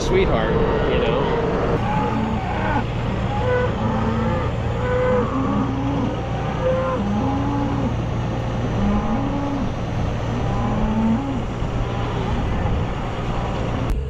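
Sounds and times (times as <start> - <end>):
vehicle engine humming: 0.0 - 14.0
cows mooing: 0.4 - 13.9.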